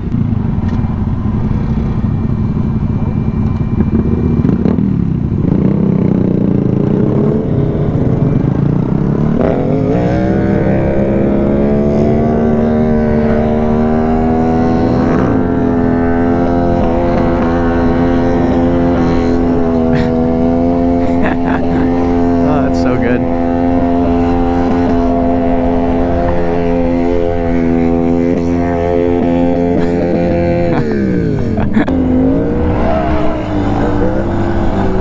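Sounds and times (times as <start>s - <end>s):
minibike engine revving: 0.0s - 35.0s.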